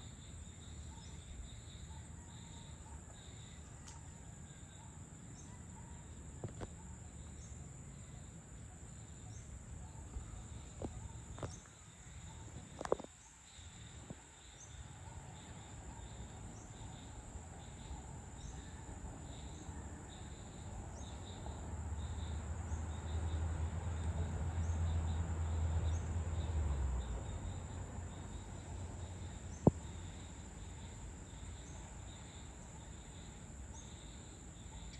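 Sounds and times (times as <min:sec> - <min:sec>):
cricket drone: 0:00.0 - 0:34.9
insect chirps: 0:00.0 - 0:34.9.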